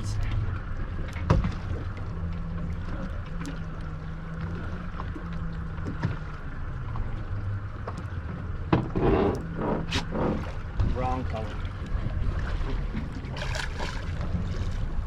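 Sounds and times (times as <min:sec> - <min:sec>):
boat engine humming: 0:00.0 - 0:15.0
water noise: 0:00.0 - 0:15.0
wind: 0:00.0 - 0:15.0.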